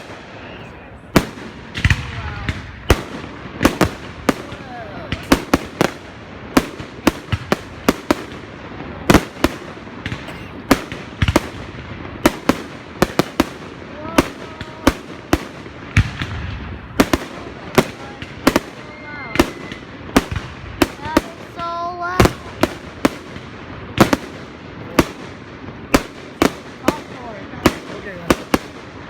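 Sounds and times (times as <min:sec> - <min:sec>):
fireworks banging: 0:00.0 - 0:29.0.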